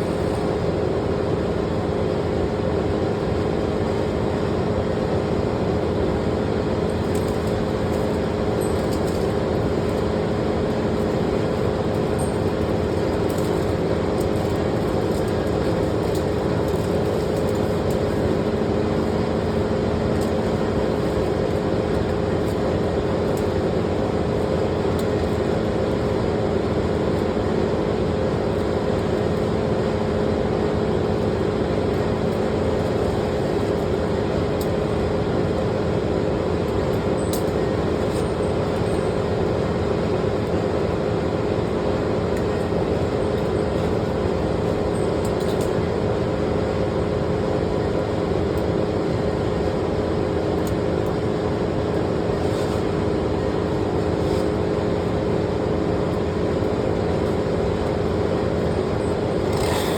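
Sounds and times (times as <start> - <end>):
steady engine drone: 0.0 - 59.9.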